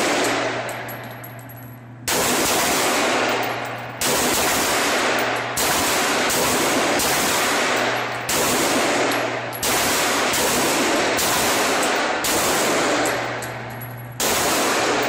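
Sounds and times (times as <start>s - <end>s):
handgun shots echoing: 0.0s - 1.4s, 2.1s - 15.0s.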